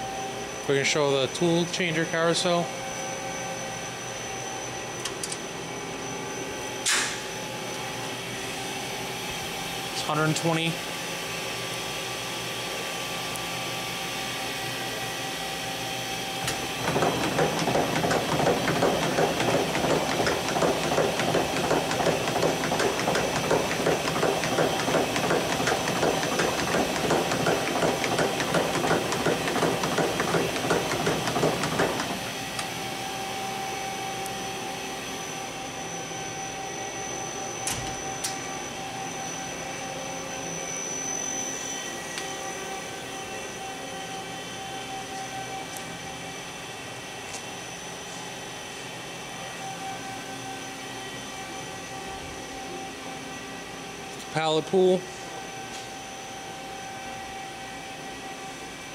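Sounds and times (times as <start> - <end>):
machine hum: 0.0 - 58.9.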